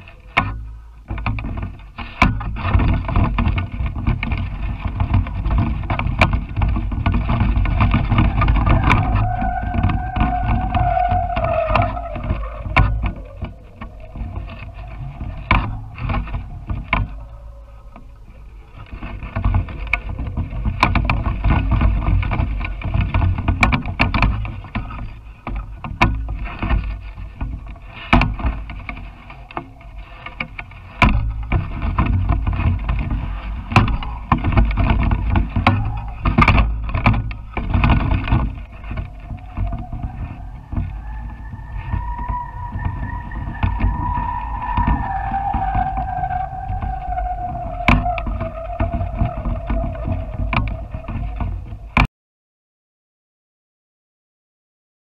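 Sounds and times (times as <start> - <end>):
wind buffeting microphone: 0.0 - 52.1.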